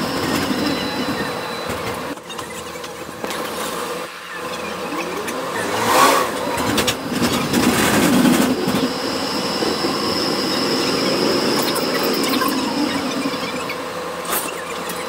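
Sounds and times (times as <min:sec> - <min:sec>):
high squeal: 0:00.0 - 0:15.0
tram car rumble and rattle: 0:00.0 - 0:15.0
tram motor whine: 0:00.0 - 0:15.0.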